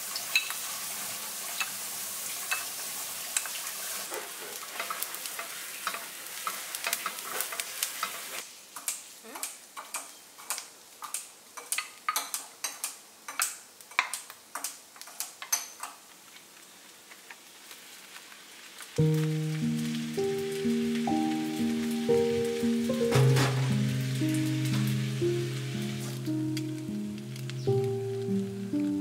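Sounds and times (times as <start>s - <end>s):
food sizzling in a pan: 0.0s - 29.0s
oil popping and crackling: 0.0s - 29.0s.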